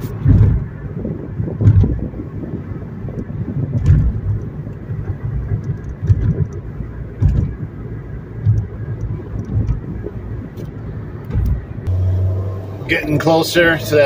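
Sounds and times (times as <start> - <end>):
tyre and engine rumble: 0.0 - 14.0.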